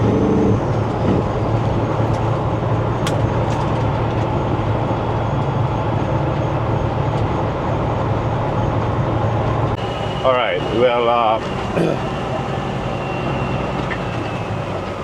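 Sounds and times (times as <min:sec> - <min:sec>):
road and tyre noise: 0:00.0 - 0:15.0
truck engine drone: 0:00.0 - 0:15.0.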